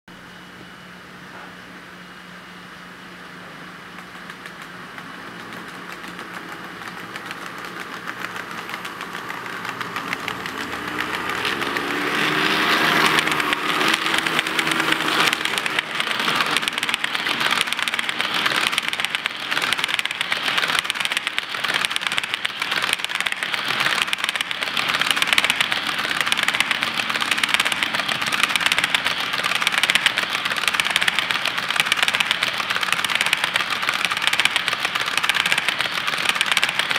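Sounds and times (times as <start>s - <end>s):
model train motors humming: 1.0s - 36.9s
wheels clicking on track: 3.8s - 36.9s.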